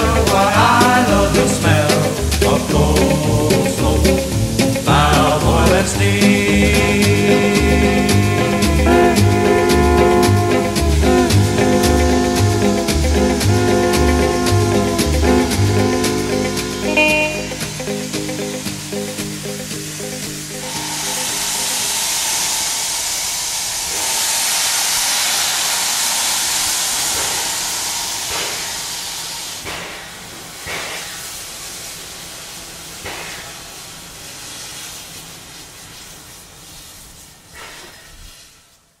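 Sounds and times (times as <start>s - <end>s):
short steam blasts: 0.0s - 39.0s
steam locomotive hissing: 0.0s - 39.0s.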